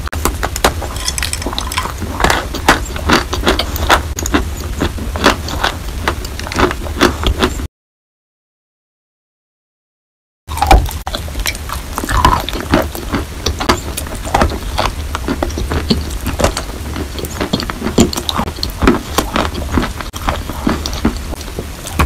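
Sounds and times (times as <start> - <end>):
chalk crunching while chewing: 0.2 - 7.6, 10.5 - 22.0.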